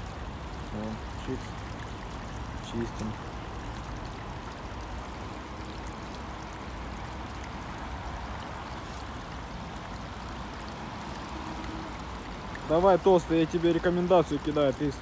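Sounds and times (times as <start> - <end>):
water trickling through culvert: 0.0 - 15.0.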